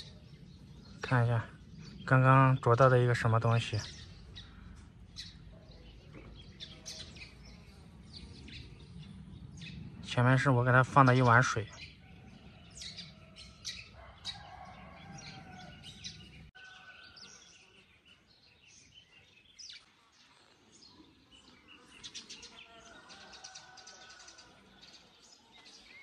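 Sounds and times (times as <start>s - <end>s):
faint bird chirping: 0.0s - 26.0s.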